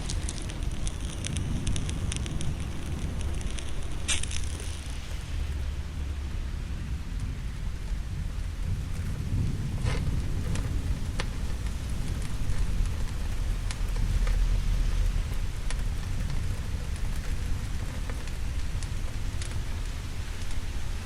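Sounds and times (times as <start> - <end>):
low rumble: 0.0 - 20.9
steady rain: 0.0 - 21.0.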